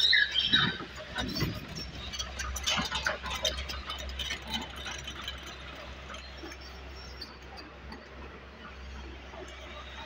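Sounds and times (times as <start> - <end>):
excavator engine hum: 0.0 - 10.0
metal clanks and squeaks: 0.0 - 10.0.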